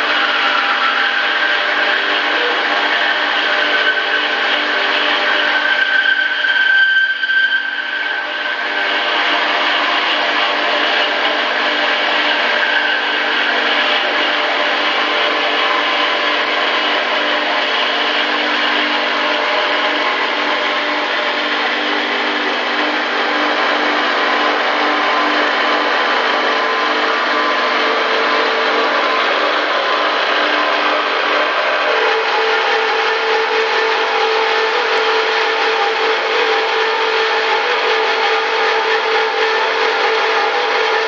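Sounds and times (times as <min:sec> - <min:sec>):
band saw cutting steel: 0:00.0 - 0:41.0
steady tones: 0:00.0 - 0:41.0
machine hum: 0:07.6 - 0:41.0.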